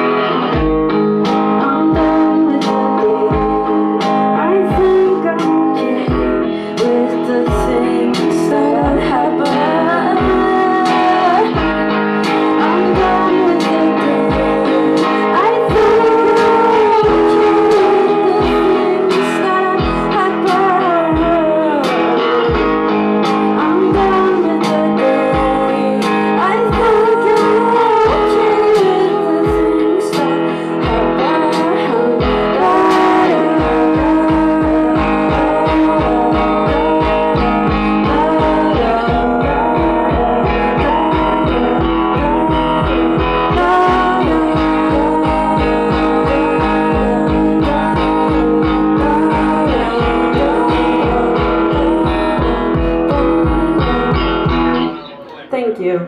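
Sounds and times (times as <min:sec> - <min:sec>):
drums: 0:00.0 - 0:55.1
electric guitar: 0:00.0 - 0:56.0
woman singing: 0:00.0 - 0:56.0.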